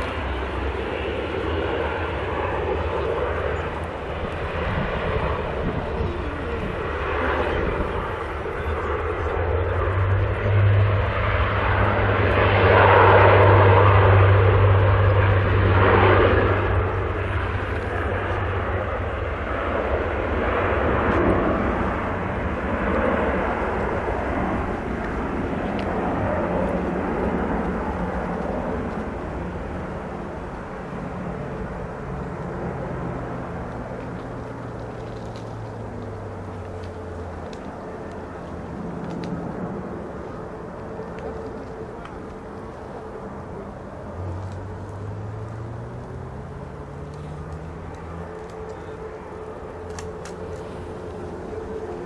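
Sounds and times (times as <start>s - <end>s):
propeller aircraft engines droning: 0.0s - 52.0s.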